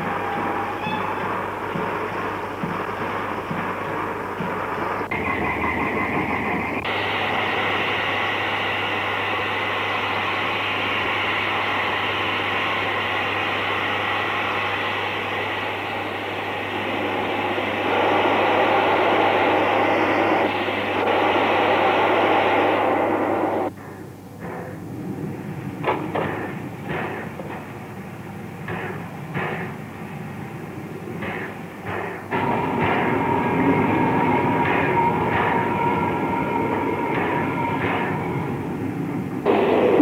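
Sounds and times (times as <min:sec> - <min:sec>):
steam locomotive hissing: 0:00.0 - 0:40.0.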